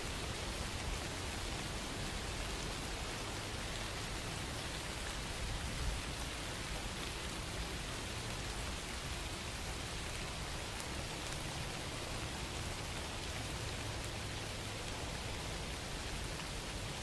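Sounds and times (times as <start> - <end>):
rain pattering on a surface: 0.0 - 17.0.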